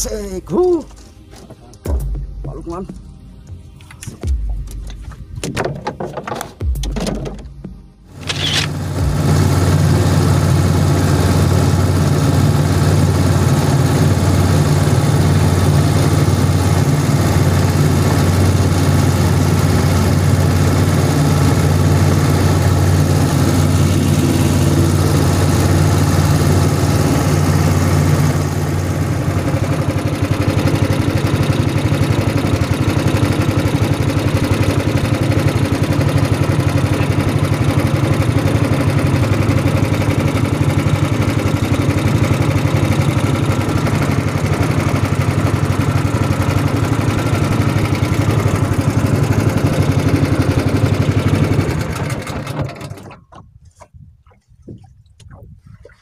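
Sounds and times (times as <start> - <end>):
boat engine droning: 7.6 - 56.0.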